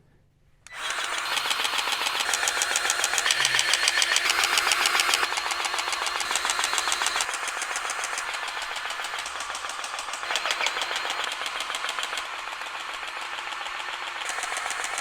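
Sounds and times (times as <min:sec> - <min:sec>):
powered grease gun pulsing: 0:00.7 - 0:15.0.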